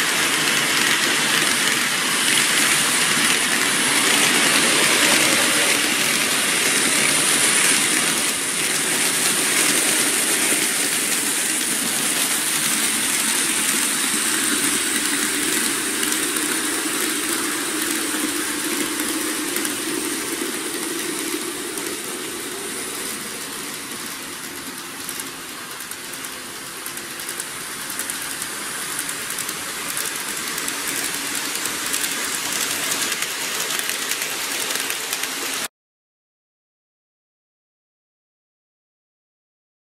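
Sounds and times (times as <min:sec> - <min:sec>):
model trains rumbling on track: 0:00.0 - 0:35.7.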